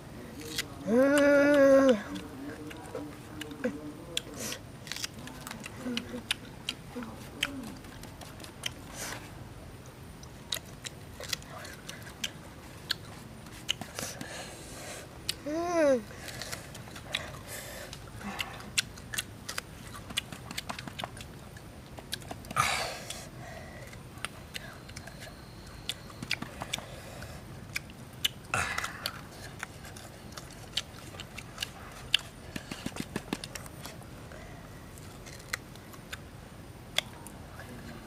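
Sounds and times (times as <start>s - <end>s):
wet chewing with smacks: 0.4s - 14.4s, 16.2s - 34.0s.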